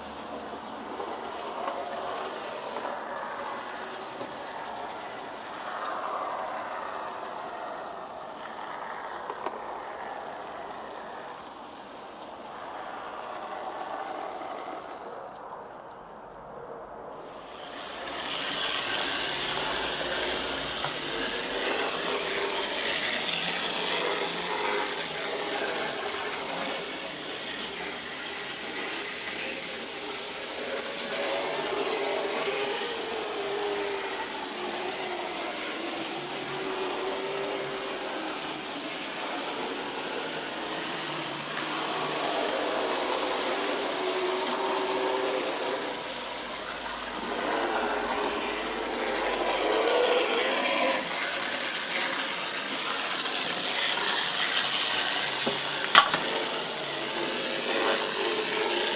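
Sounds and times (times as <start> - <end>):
model train motor whirring: 0.0 - 58.9.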